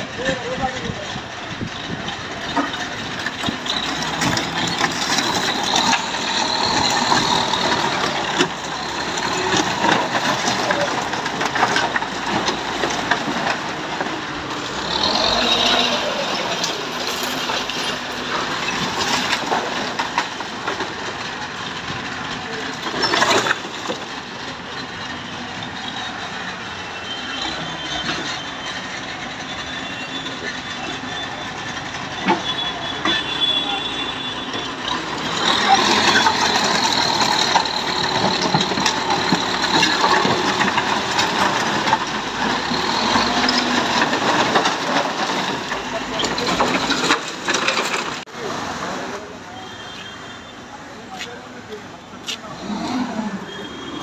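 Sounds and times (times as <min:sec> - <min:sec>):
debris clattering and scraping: 0:00.0 - 0:49.3
diesel engine running: 0:00.0 - 0:49.9.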